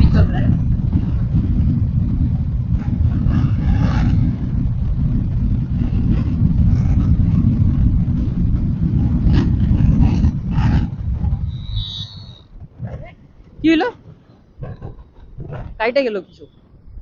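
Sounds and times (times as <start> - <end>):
wind rushing: 0.0 - 16.0
motorcycle engine rumble: 0.0 - 17.0
tyres on road: 0.0 - 17.0.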